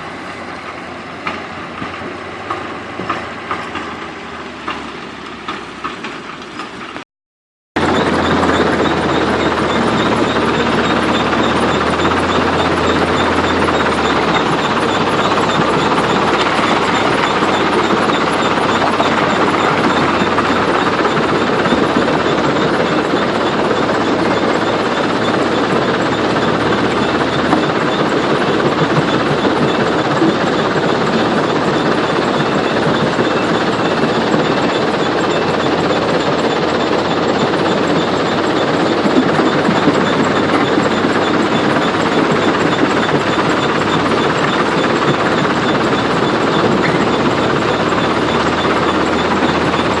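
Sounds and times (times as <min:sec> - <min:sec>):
heavy machinery rattling: 0:00.0 - 0:07.0, 0:07.8 - 0:50.0.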